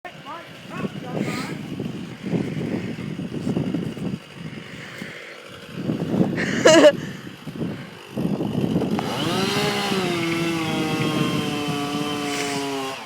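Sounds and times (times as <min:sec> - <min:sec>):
chainsaw revving and cutting: 0:00.1 - 0:13.0.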